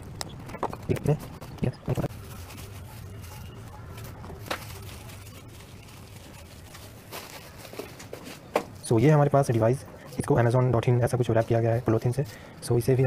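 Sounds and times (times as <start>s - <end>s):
bubble wrap crinkling: 0.8s - 13.0s.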